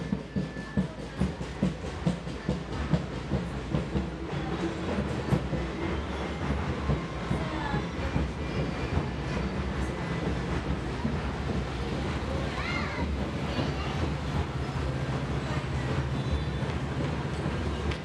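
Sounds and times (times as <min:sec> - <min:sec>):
train rumbling on rails: 0:00.0 - 0:18.0
wheels clacking over rail joints: 0:00.0 - 0:18.0.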